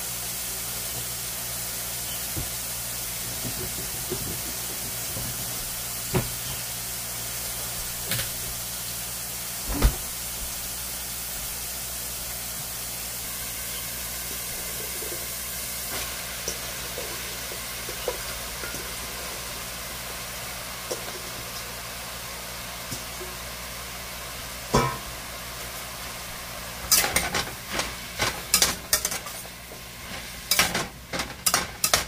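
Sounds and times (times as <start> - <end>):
mushrooms sizzling in oil: 0.0 - 32.0.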